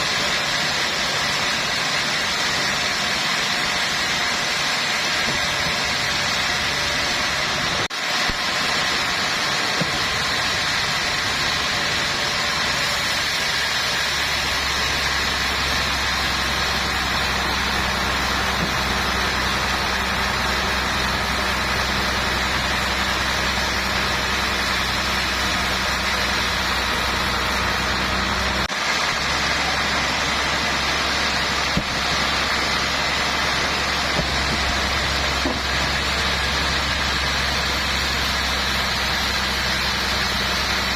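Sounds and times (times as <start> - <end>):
low engine hum: 0.0 - 40.9
sawmill machinery drone: 0.0 - 40.9.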